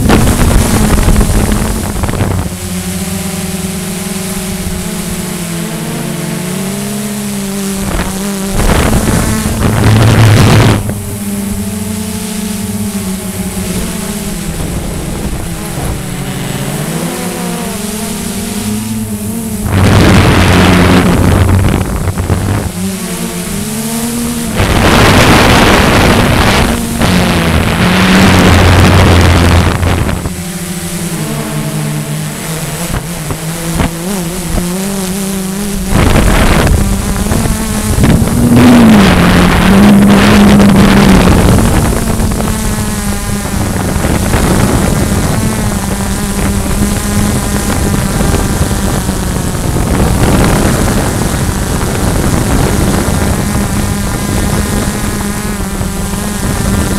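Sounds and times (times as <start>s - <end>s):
quadcopter motors buzzing: 0.0s - 56.9s
wind rushing over microphone: 0.0s - 56.9s.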